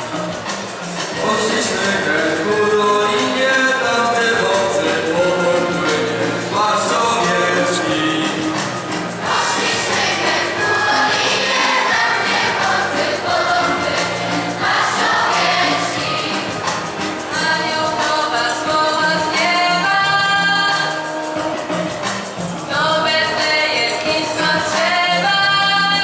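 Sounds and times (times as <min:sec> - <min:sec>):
choir singing a carol: 0:00.0 - 0:26.0.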